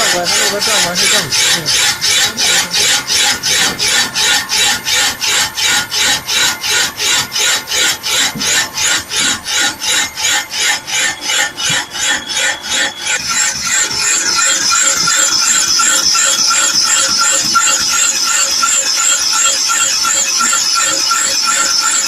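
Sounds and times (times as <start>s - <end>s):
cutter rasping on metal pipe: 0.0s - 22.0s.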